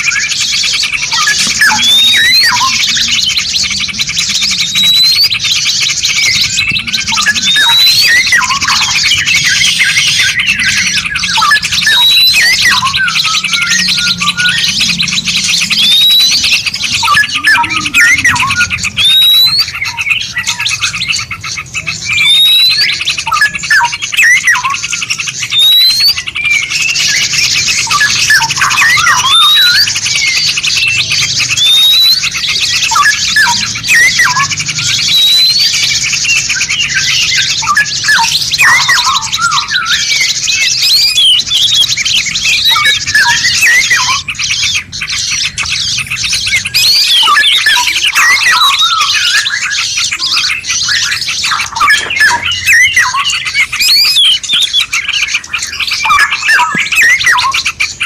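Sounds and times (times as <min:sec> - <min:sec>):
upward-sweeping bird whistle: 0:00.0 - 0:58.0.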